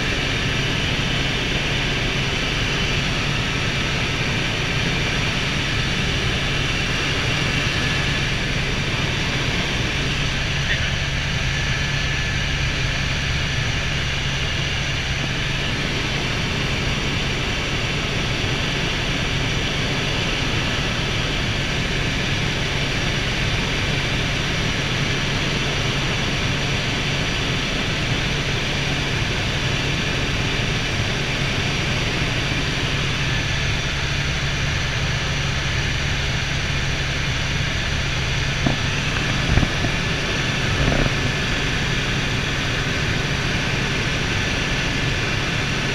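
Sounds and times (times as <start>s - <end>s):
helicopter drone from cabin: 0.0s - 45.9s.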